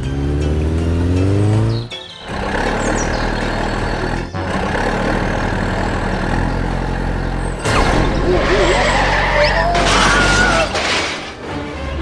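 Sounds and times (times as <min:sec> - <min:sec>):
engine running with rough rumble: 0:00.0 - 0:11.4
faint music: 0:00.0 - 0:12.0
vehicle engine revving: 0:00.0 - 0:12.0.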